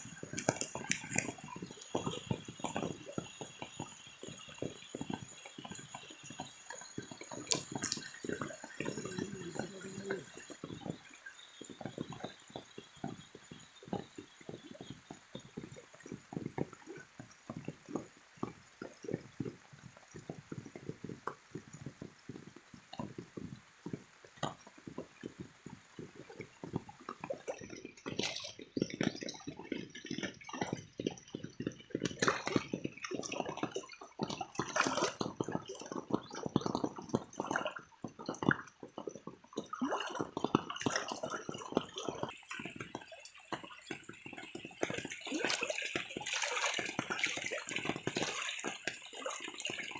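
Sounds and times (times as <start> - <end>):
rain drips and splashes: 0.0 - 49.9.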